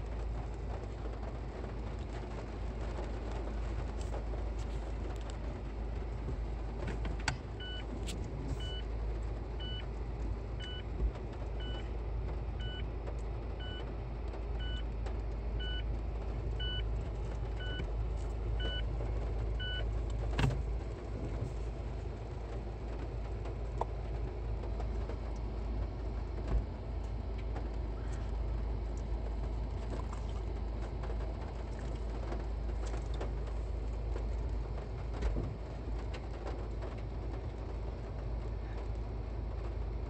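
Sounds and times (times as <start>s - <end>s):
car cabin rumble: 0.0s - 40.0s.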